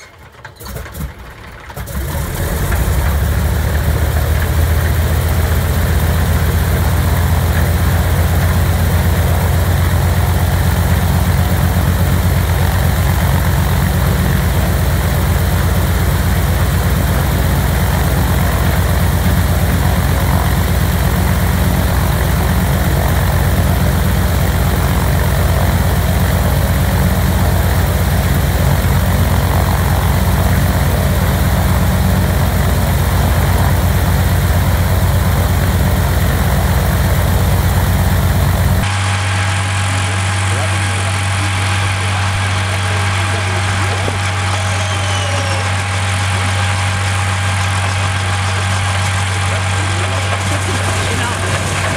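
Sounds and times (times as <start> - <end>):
radial piston engine idling: 0.6 - 51.9.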